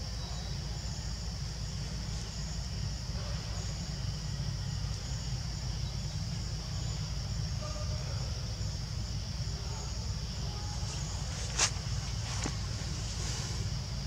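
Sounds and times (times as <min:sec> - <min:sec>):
high-pitched insect chorus: 0:00.0 - 0:14.0
low steady rumble: 0:00.0 - 0:14.0.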